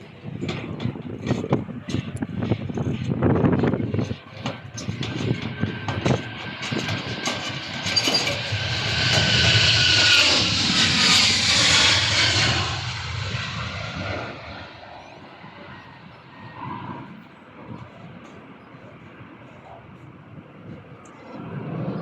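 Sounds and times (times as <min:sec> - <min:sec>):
aircraft passing: 0:00.0 - 0:22.0.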